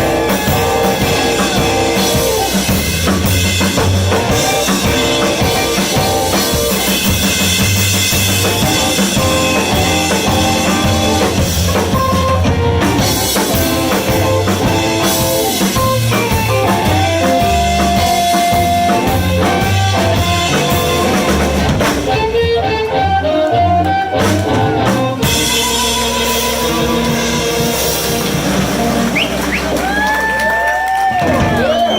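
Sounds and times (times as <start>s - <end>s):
live blues band playing: 0.0s - 31.9s.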